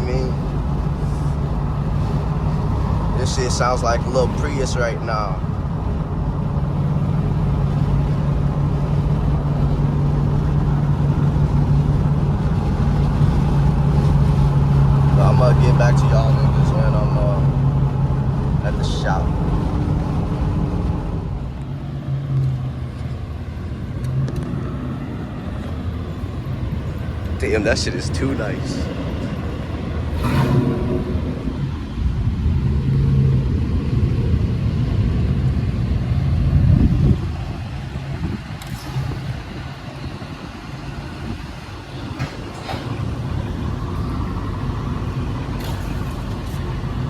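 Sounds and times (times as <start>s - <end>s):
car engine exhaust drone: 0.0s - 47.0s.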